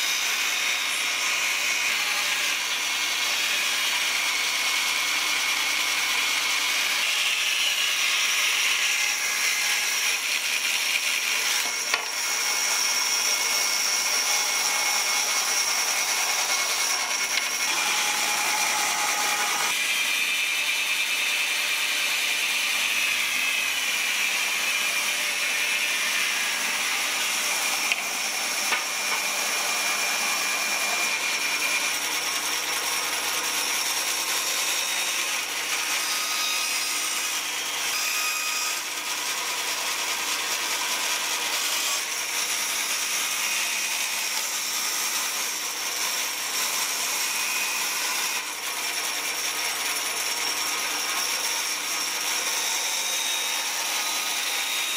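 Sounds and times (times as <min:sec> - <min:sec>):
bandsaw cutting wood: 0:00.0 - 0:54.9.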